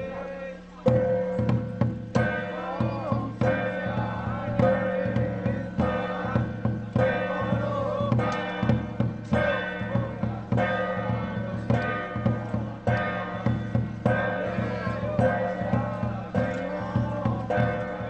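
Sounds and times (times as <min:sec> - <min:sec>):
sustained melodic instruments: 0:00.0 - 0:18.0
drum and percussion strikes: 0:00.8 - 0:18.0.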